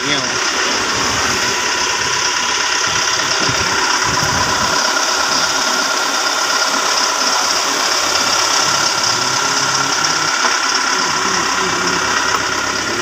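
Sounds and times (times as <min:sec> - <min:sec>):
machine engine running: 0:00.0 - 0:13.0.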